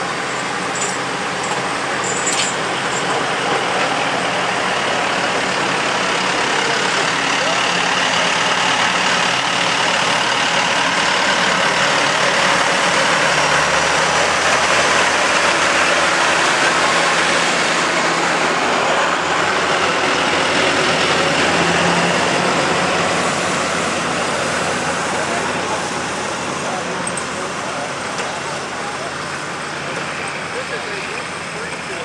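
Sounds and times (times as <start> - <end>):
tractor engines droning: 0.0 - 32.0.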